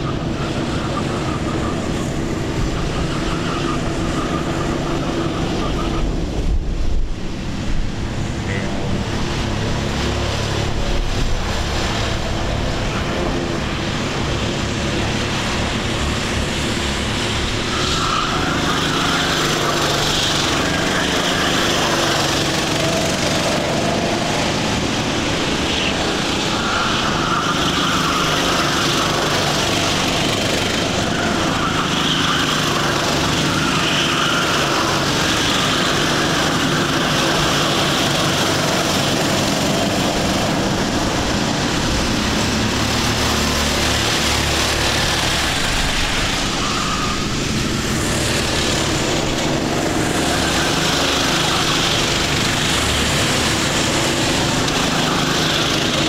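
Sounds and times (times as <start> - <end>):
kart engines droning: 0.0 - 56.0.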